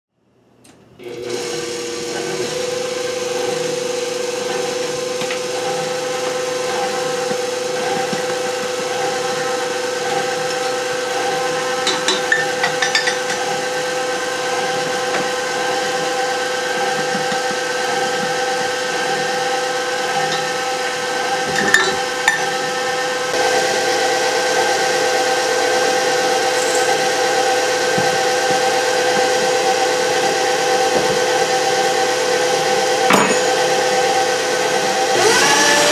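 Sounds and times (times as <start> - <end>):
stand mixer motor humming whine: 1.0 - 35.9.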